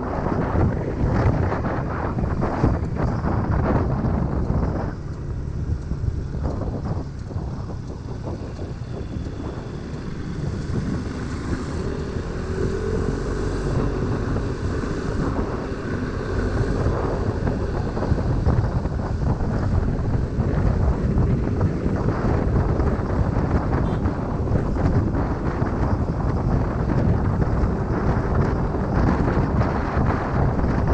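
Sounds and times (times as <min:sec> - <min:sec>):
motorcycle engine: 0:00.0 - 0:30.9
road rumble: 0:00.0 - 0:30.9
wind buffeting microphone: 0:00.0 - 0:30.9.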